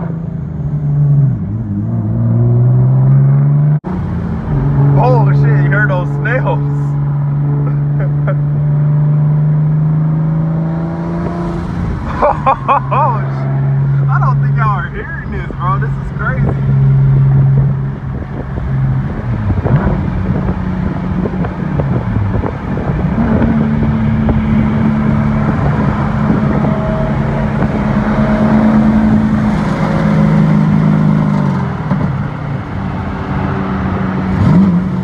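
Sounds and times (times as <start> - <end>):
car engine drone from inside cabin: 0.0 - 35.0.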